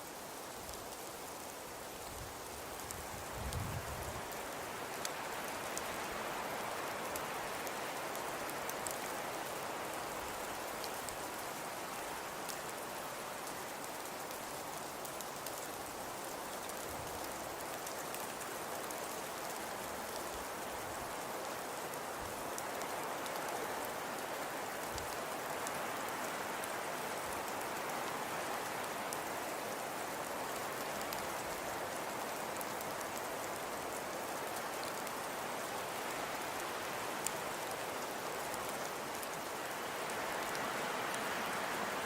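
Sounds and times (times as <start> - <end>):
fire crackles: 0.0 - 42.0.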